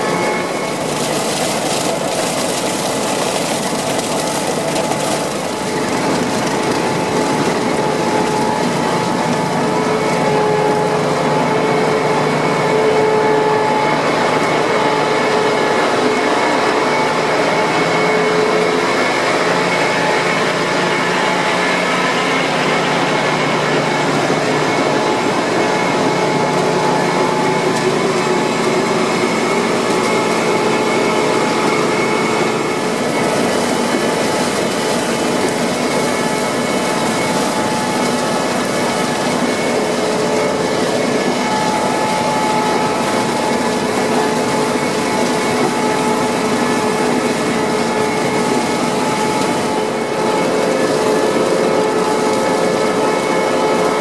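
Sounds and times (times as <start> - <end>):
harvester engine and conveyor din: 0.0 - 54.0.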